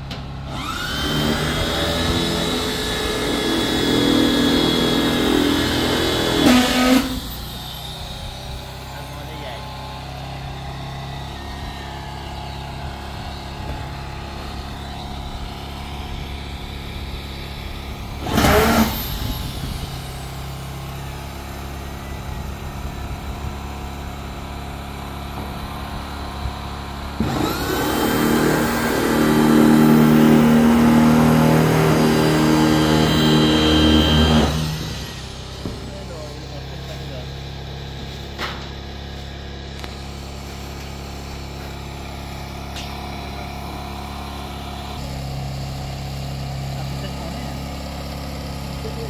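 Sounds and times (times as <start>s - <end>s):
motor humming: 0.2s - 49.0s.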